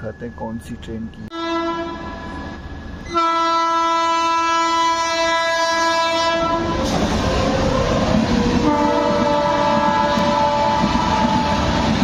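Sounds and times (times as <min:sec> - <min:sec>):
train passing with wheel clatter: 0:00.0 - 0:12.0
train horn blast: 0:01.3 - 0:12.0.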